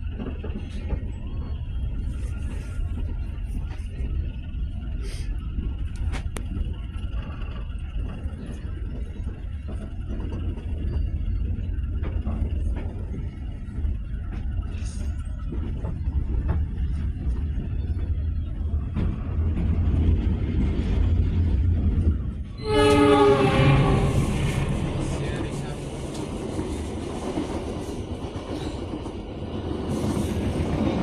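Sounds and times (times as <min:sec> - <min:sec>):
passenger train rumble: 0:00.0 - 0:31.0.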